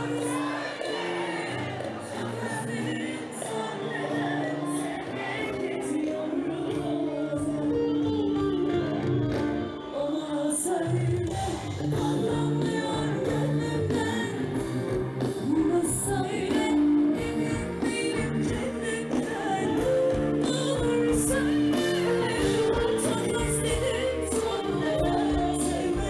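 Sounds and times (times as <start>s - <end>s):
woman singing: 0.0s - 8.5s, 9.6s - 26.0s
live pop band playing: 0.0s - 26.0s.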